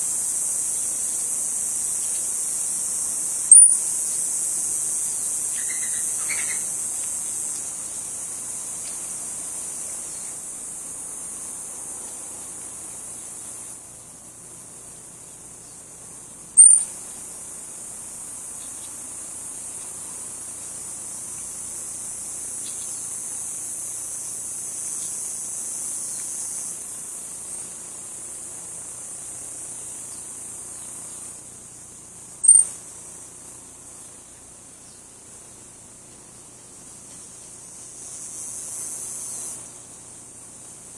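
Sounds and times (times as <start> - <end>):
insects droning high-pitched: 0.0 - 40.9.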